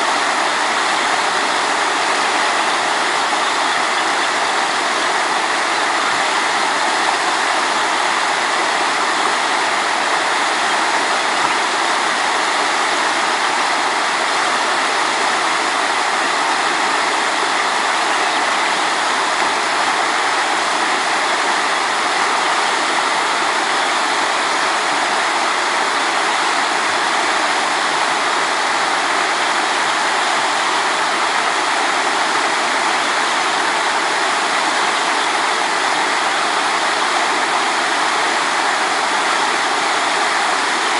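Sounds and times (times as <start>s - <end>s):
rushing running water: 0.0s - 40.9s.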